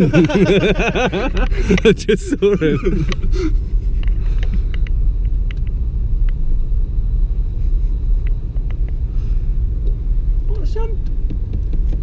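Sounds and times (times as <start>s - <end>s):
car engine rumble from cabin: 0.0s - 12.0s.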